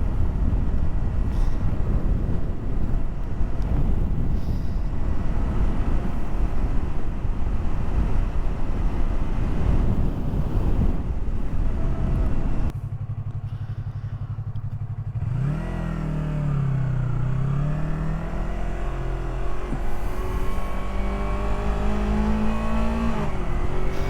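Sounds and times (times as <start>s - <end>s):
motorcycle engine: 0.0s - 24.0s
wind rush while riding: 0.0s - 24.0s.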